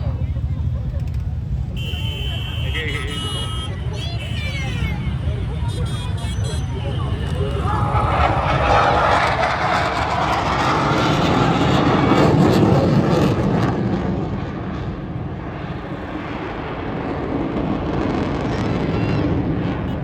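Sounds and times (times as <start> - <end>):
aircraft flying past: 2.8 - 20.0.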